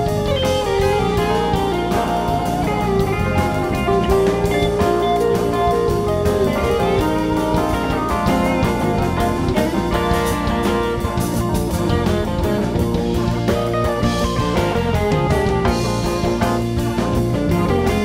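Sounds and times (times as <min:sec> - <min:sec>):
drum kit: 0:00.0 - 0:18.0
electric guitars playing melody: 0:00.0 - 0:18.0.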